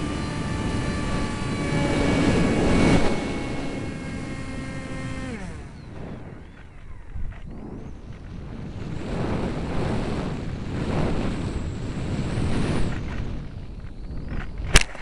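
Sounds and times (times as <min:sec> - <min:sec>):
jet engines roaring: 0:00.0 - 0:13.8
faint high whine: 0:00.0 - 0:15.0
wind buffeting microphone: 0:00.0 - 0:15.0.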